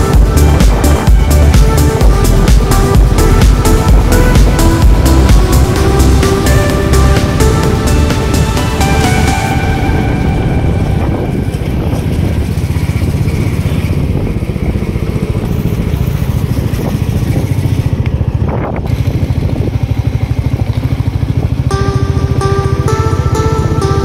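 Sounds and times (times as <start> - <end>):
motorcycle engine throbbing: 0.0 - 24.0.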